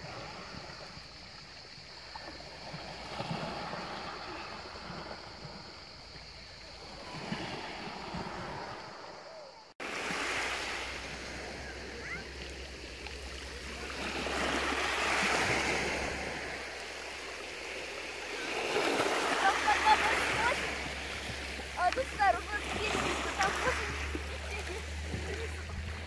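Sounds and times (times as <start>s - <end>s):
waves lapping on pebble shore: 0.0s - 9.2s, 9.8s - 26.0s.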